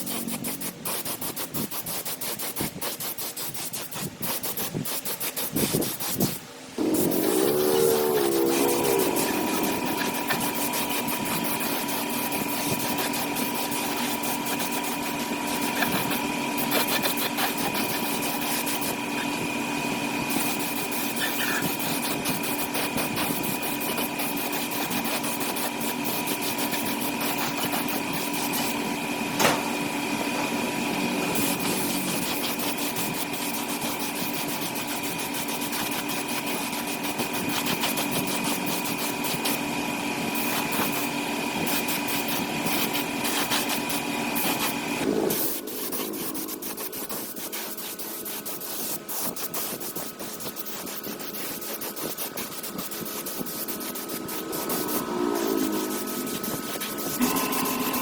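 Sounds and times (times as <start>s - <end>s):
small motor humming: 0.0s - 58.0s.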